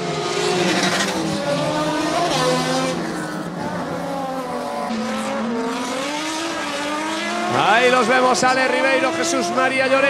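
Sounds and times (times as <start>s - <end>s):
race car engines revving: 0.0s - 10.0s.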